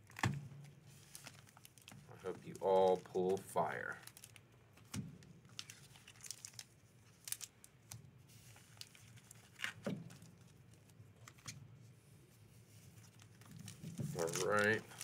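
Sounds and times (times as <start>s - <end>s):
foil wrappers crinkling: 0.0s - 4.4s, 5.2s - 11.5s, 12.6s - 15.0s.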